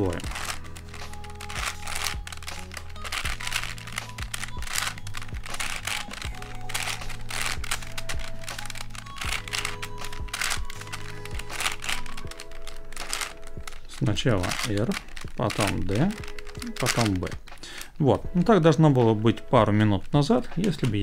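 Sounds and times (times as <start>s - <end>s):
plastic puzzle clacking and rattling: 0.0s - 18.0s, 19.3s - 21.0s
soft background music: 0.0s - 21.0s.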